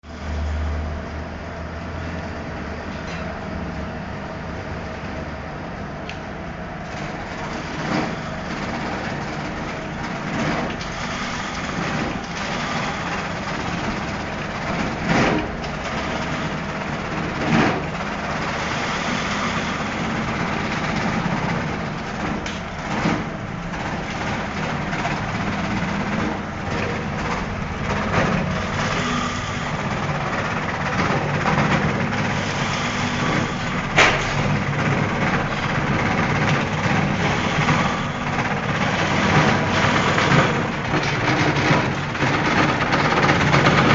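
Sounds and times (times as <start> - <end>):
chopping machine running: 4.5 - 43.9.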